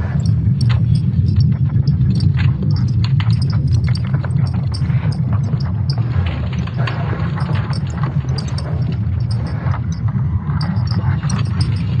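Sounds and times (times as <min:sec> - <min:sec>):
crackles and clicks: 0:00.0 - 0:12.0
low steady rumble: 0:00.0 - 0:12.0.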